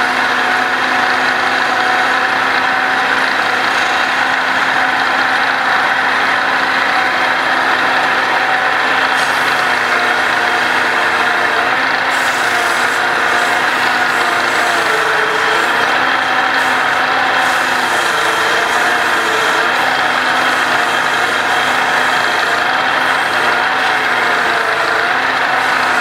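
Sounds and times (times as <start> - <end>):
wood lathe whirring: 0.0 - 26.0.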